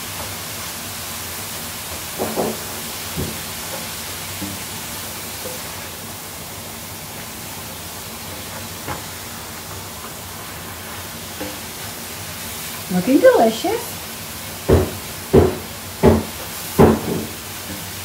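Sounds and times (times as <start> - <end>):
zucchini sizzling in a skillet: 0.0 - 18.0.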